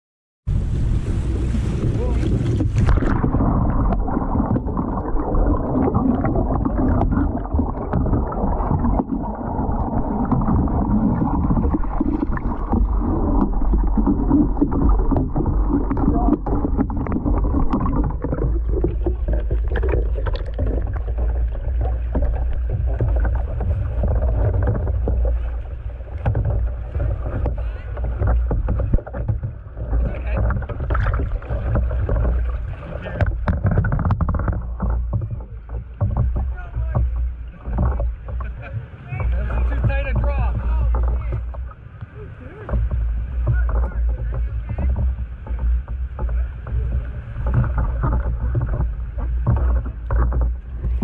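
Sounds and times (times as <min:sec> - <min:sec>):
muffled underwater churning: 0:00.5 - 0:51.0
rushing river water: 0:00.5 - 0:51.0
wind on microphone: 0:00.5 - 0:51.0
water sloshing: 0:00.7 - 0:51.0.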